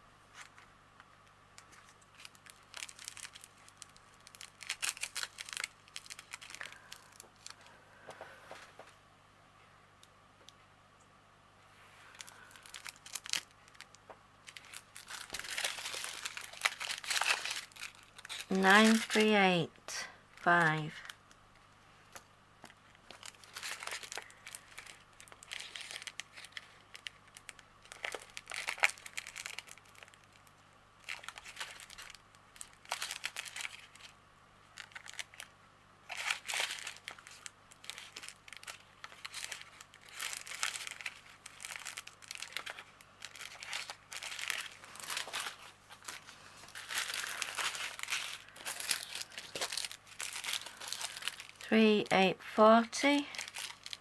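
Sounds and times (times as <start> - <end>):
plastic packets crinkling: 1.6 - 7.8, 12.0 - 19.6, 22.1 - 54.0.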